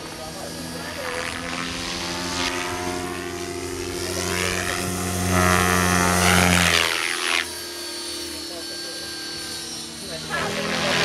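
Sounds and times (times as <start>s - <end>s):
rc helicopter motor and rotor hum: 0.0s - 11.0s
rotor blades whooshing: 0.0s - 11.0s.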